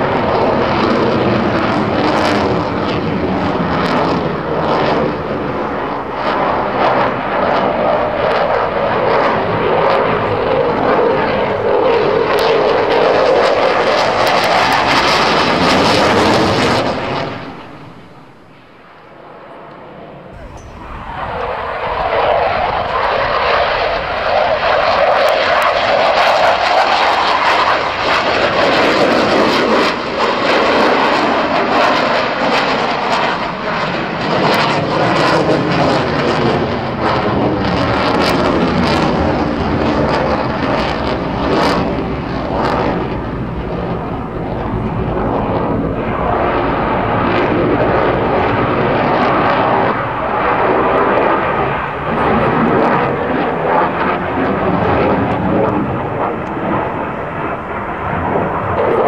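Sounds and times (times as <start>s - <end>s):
fighter jet engines roaring: 0.0s - 59.0s
jet engine crackle: 0.0s - 59.0s.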